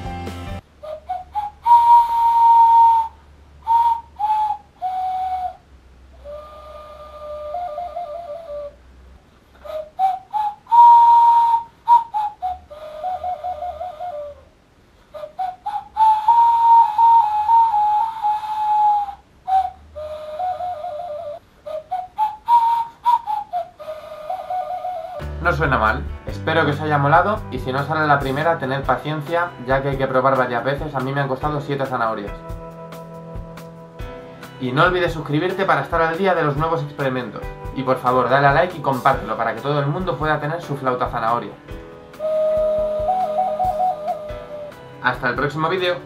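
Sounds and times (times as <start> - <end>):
carrot flute whistle-like notes: 0.8 - 8.8, 9.6 - 14.5, 15.1 - 41.4, 42.1 - 46.0.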